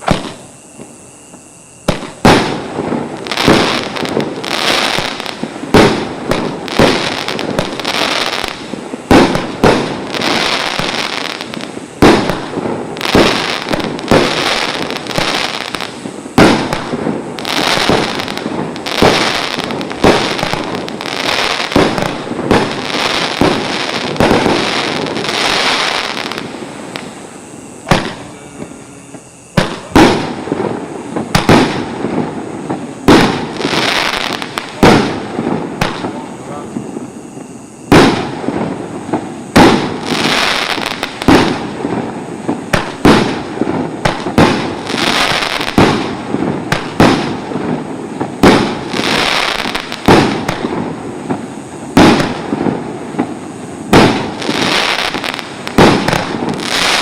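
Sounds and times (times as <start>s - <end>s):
fireworks banging: 0.0s - 57.0s
fireworks crackling: 0.0s - 57.0s.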